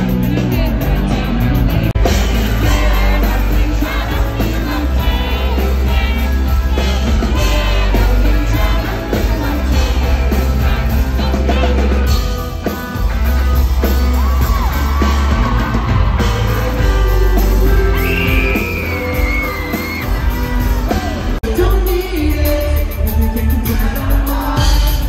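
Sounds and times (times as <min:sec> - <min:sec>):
lead vocals singing: 0:00.0 - 0:13.1, 0:13.8 - 0:25.0
audience yelling and singing along: 0:00.0 - 0:25.0
live rock band playing: 0:00.0 - 0:25.0.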